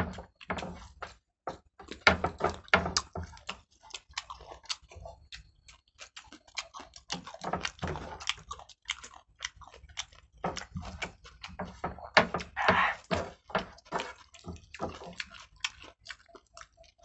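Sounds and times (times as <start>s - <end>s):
people chewing and lip smacking: 0.0s - 17.0s.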